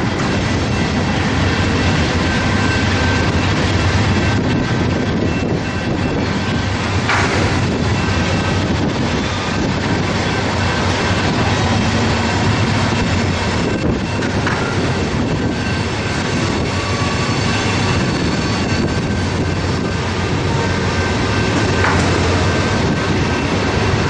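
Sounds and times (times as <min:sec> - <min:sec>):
steel wheels rumbling on track: 0:00.0 - 0:24.0.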